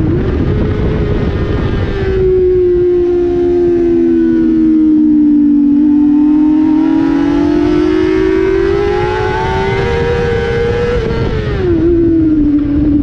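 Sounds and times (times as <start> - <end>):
motorcycle engine at high revs: 0.0 - 13.0
wind noise: 0.0 - 13.0.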